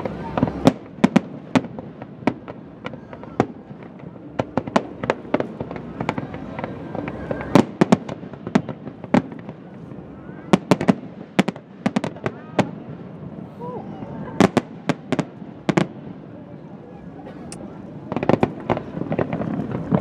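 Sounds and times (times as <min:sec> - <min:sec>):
fireworks bursting: 0:00.0 - 0:13.4, 0:14.2 - 0:16.4, 0:17.6 - 0:20.0.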